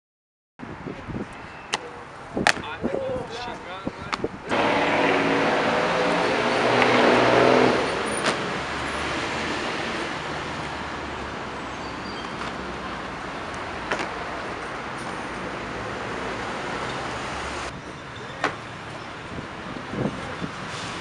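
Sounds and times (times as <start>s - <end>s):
road traffic: 0.6s - 21.0s.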